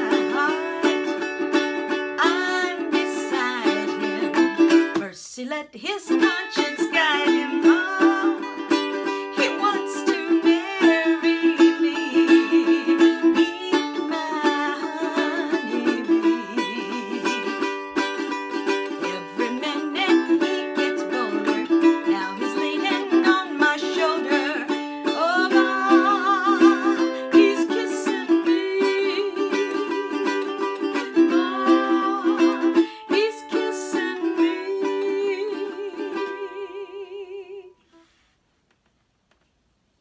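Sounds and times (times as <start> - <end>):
strummed ukulele: 0.0 - 5.2, 5.9 - 37.7
woman singing with vibrato: 0.0 - 38.0.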